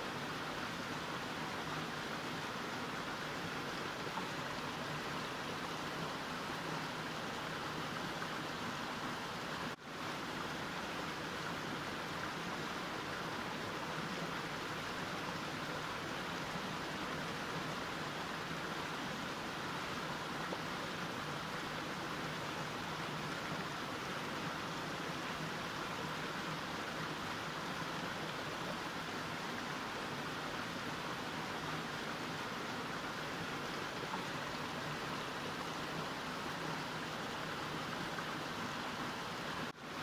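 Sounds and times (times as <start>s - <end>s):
mountain stream flowing: 0.0s - 40.0s.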